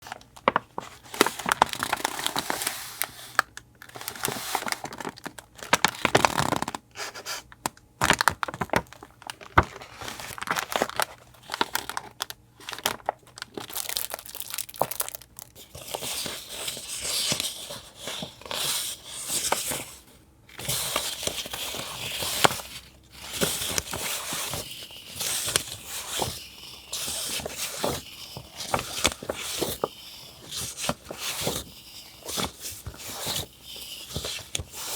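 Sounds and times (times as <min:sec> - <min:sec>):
paper crinkling and tearing: 0:00.0 - 0:06.8, 0:08.0 - 0:34.9.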